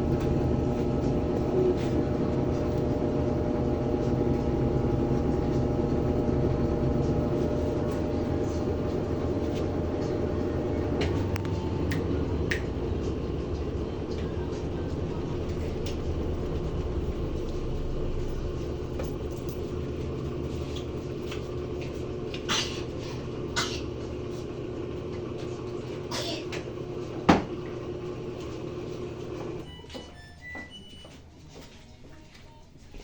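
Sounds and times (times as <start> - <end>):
washing machine spinning: 0.0 - 31.8.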